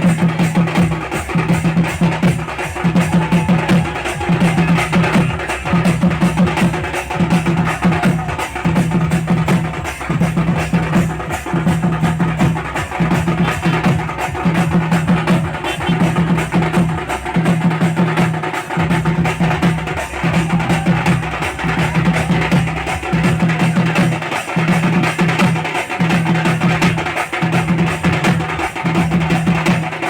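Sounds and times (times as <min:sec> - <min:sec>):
loud music with fast drumming: 0:00.0 - 0:30.0.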